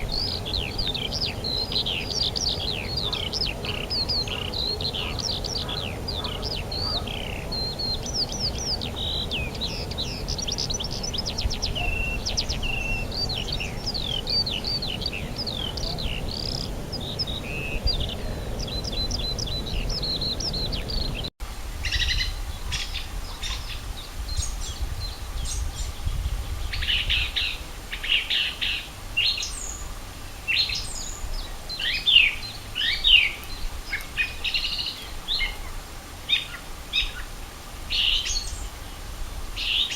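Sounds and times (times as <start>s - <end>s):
birds chirping and trilling: 0.0s - 39.0s, 39.6s - 39.9s.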